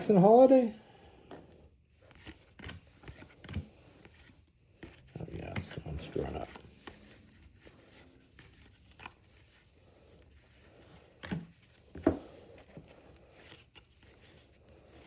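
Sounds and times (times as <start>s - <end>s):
cards scraping and sliding: 1.3s - 15.0s.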